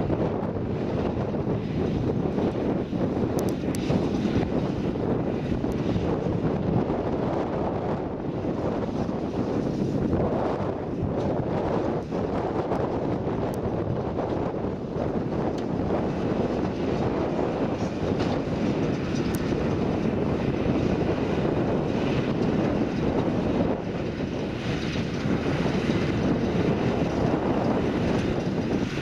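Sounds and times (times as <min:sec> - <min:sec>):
tractor and baler running: 0:00.0 - 0:29.0
wind buffeting microphone: 0:00.0 - 0:29.0.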